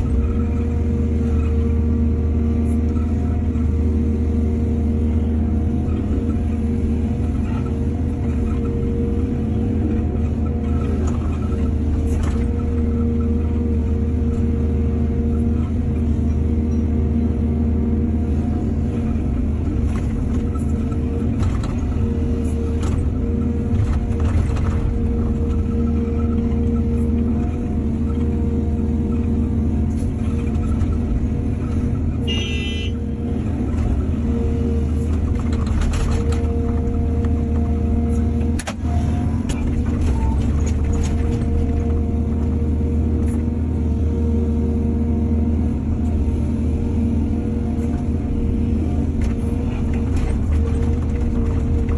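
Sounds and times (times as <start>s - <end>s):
excavator diesel engine rumbling: 0.0s - 51.9s.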